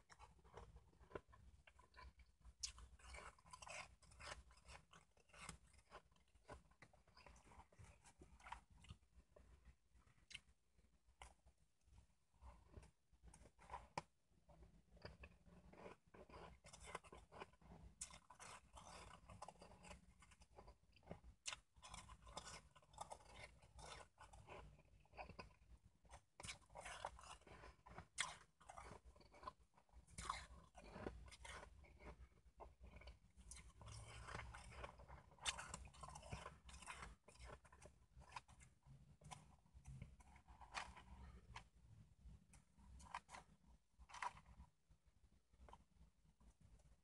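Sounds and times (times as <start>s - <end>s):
chewing crunchy shaved ice: 0.0s - 44.9s.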